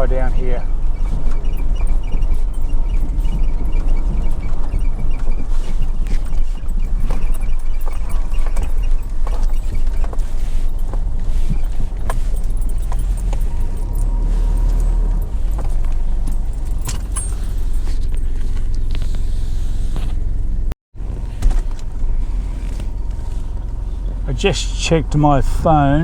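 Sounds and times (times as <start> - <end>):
vehicle rumbling on dirt track: 0.0 - 26.0.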